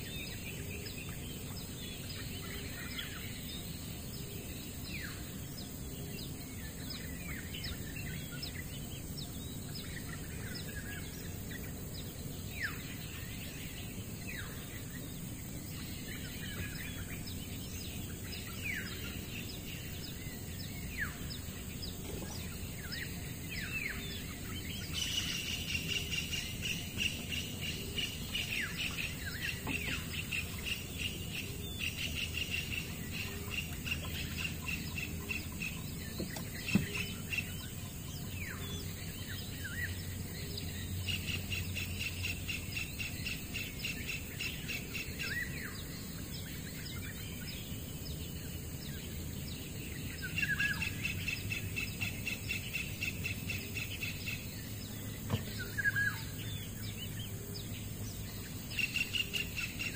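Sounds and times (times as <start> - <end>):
birds chirping and whistling: 0.0 - 59.9
high pulsing insect buzz: 0.0 - 59.9.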